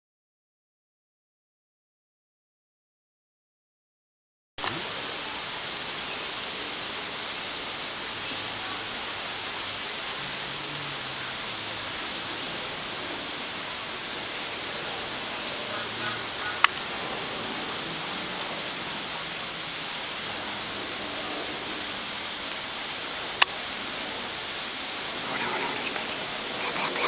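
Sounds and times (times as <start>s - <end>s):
steady hiss: 4.6s - 27.0s.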